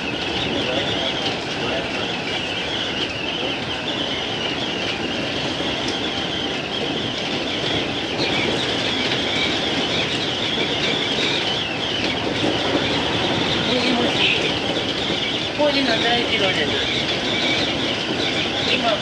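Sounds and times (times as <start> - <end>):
train wheels rumbling on rail: 0.0 - 19.0
wheels squealing: 0.0 - 19.0.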